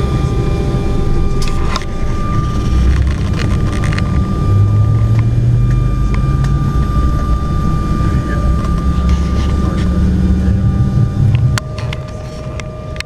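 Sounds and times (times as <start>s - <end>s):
airliner engines rumbling: 0.0s - 13.0s
deep hum: 0.0s - 13.0s
thin steady whine: 0.0s - 13.0s.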